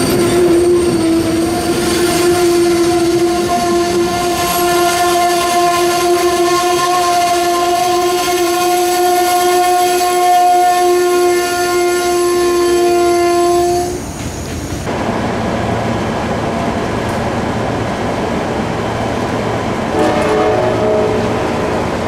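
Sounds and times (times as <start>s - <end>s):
passenger train passing: 0.0s - 22.0s.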